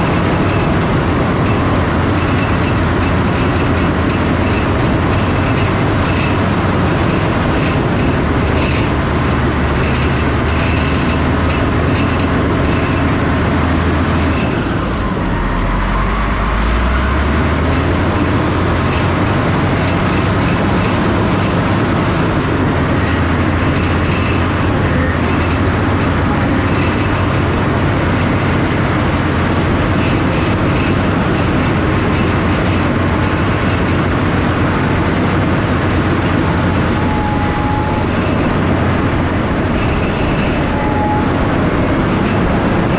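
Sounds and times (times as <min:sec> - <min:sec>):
mechanical clatter: 0:00.0 - 0:15.9, 0:17.4 - 0:42.9
earthmoving machine diesel engine: 0:00.0 - 0:42.9.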